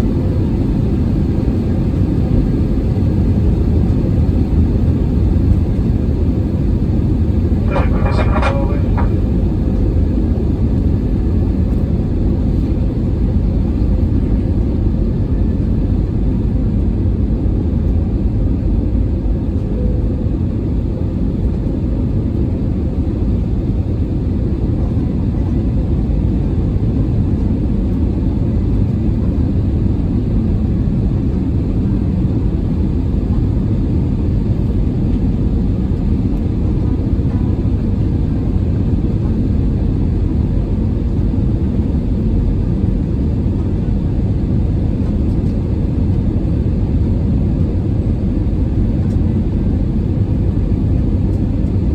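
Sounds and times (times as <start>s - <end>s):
airplane cabin engine and airflow rumble: 0.0s - 51.9s.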